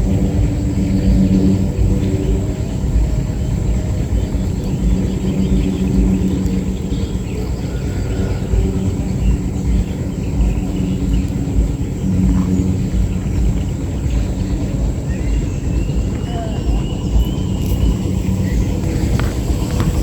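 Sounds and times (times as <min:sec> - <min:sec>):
low engine-like hum: 0:00.0 - 0:20.0
wind rumbling on microphone: 0:00.0 - 0:20.0.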